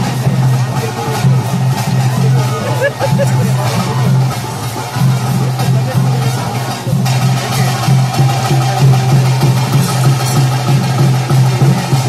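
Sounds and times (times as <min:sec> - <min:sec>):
drum-led music: 0:00.0 - 0:12.0.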